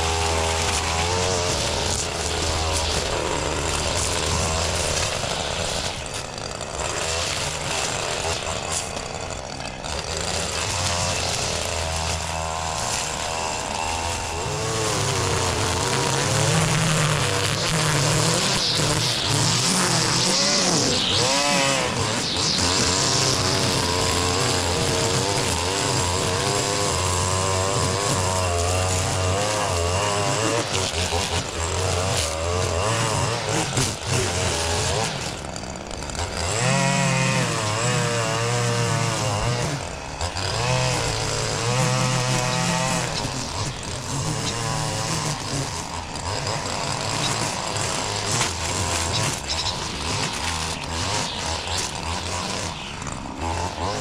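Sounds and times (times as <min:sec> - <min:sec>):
string trimmer engine cutting grass: 0:00.0 - 0:54.0.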